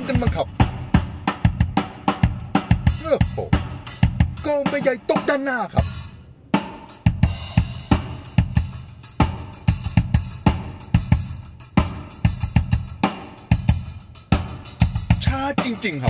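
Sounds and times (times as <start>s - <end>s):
drum kit through car speakers: 0.0s - 16.0s.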